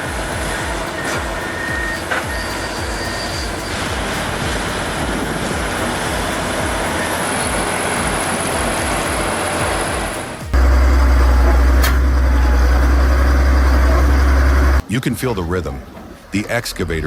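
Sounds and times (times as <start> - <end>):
rhythmic low pulse: 0.0 - 14.8
heavy machine engine rumble: 0.0 - 16.5
clattering tracks: 0.0 - 16.6.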